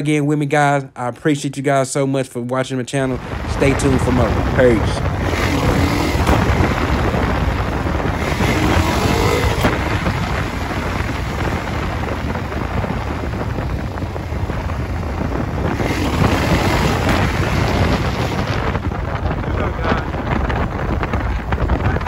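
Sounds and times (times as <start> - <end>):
wind noise on microphone: 3.0 - 22.0
vehicle noise: 3.1 - 22.0.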